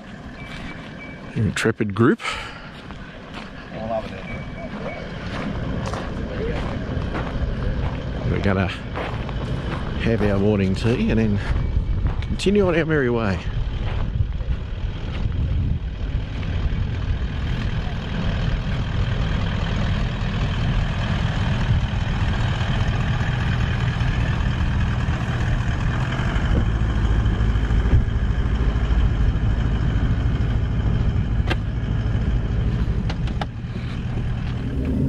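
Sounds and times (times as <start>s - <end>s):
low engine rumble: 0.0s - 35.0s.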